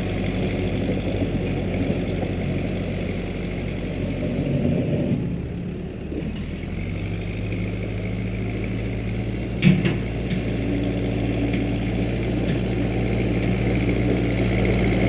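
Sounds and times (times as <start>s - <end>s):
backhoe engine running: 0.0s - 15.0s.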